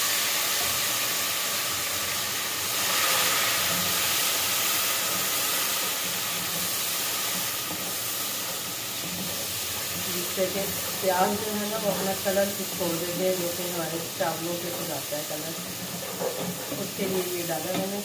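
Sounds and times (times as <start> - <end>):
water sizzling in hot oil: 0.0 - 18.0.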